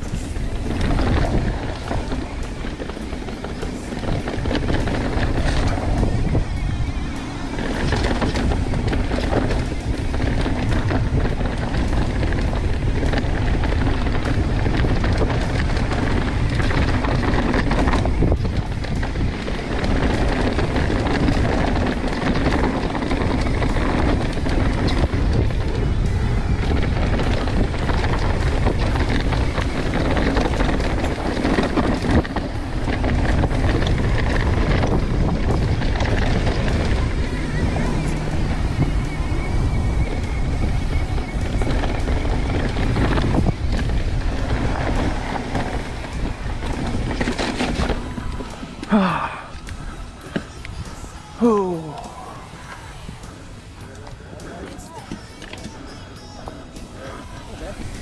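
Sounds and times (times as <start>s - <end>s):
bike knocks and rattles: 0.0s - 51.1s
bike tyre rumble on dirt: 0.0s - 58.0s
wind buffeting microphone: 0.0s - 58.0s.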